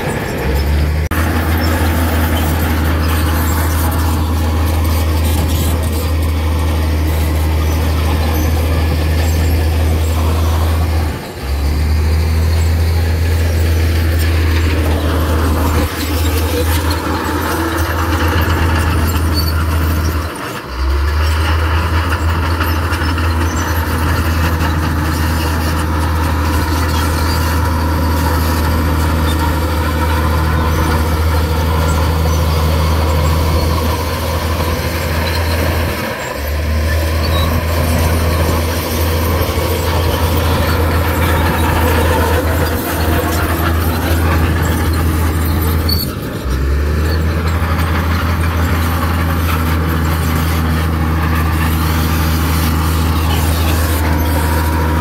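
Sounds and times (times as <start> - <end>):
clattering and grinding: 0.0 - 55.0
heavy machinery diesel engine: 0.0 - 55.0.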